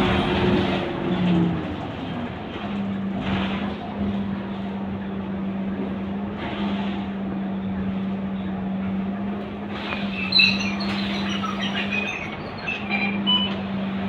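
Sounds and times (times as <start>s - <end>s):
bus diesel engine running: 0.0s - 14.0s
road and tyre noise: 0.0s - 14.0s.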